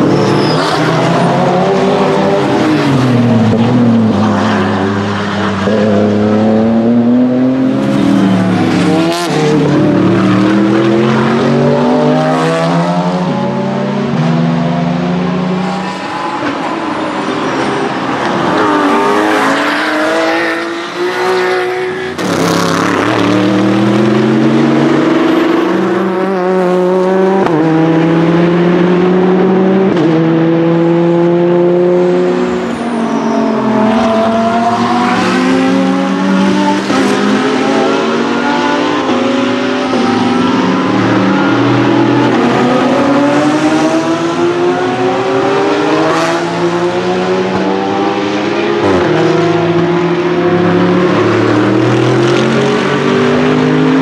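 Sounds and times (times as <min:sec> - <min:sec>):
race car engines accelerating: 0:00.0 - 0:54.0.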